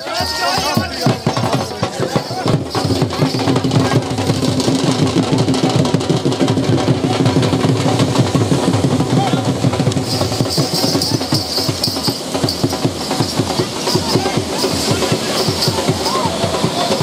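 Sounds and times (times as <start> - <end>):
firework fountains crackling: 0.0 - 17.0
high hiss: 0.0 - 17.0.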